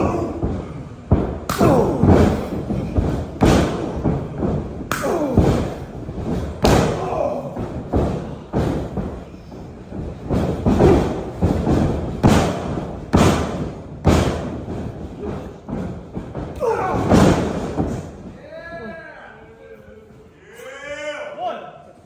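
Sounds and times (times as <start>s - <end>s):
slaps and thuds on bodies: 0.0s - 18.2s.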